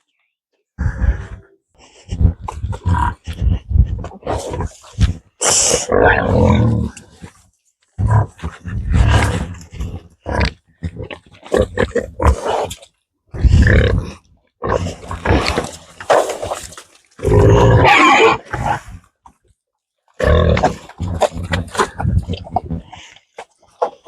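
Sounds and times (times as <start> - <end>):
farm animals grunting: 0.8 - 7.4, 8.0 - 16.3, 17.2 - 19.1, 20.2 - 24.0.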